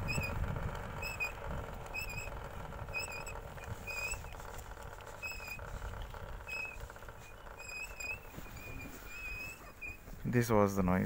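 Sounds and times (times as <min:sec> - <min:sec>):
disc brake squeaking: 0:00.0 - 0:10.2
road rumble: 0:00.0 - 0:11.0
wind: 0:00.0 - 0:11.0.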